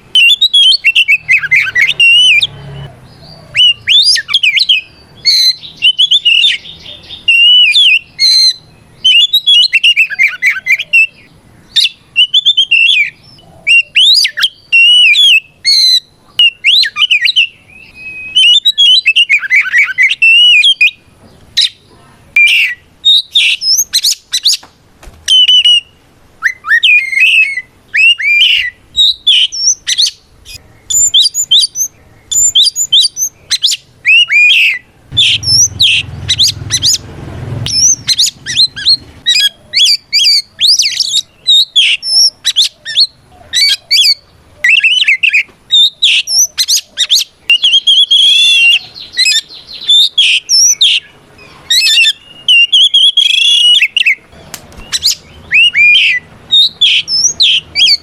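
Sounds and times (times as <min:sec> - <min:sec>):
songbird whistling song: 0:00.0 - 0:24.7, 0:25.3 - 0:58.0.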